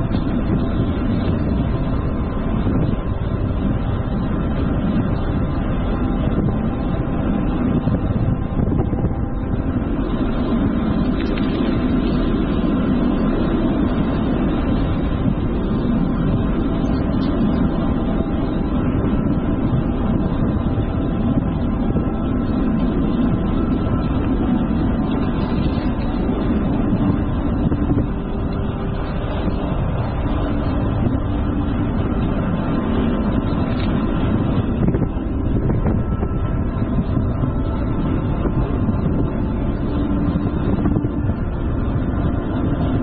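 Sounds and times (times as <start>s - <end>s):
wind rumble on microphone: 0.0s - 43.0s.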